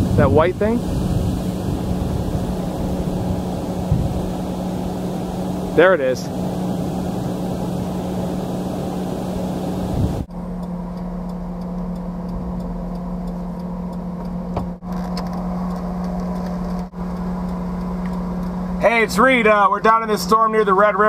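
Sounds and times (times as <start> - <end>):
engine hum in car cabin: 0.0 - 21.0
road and tyre noise: 0.0 - 21.0.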